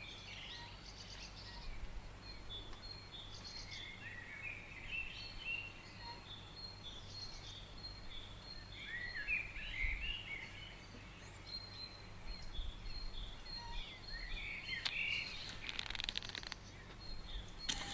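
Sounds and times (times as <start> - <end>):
songbirds singing: 0.0 - 17.9.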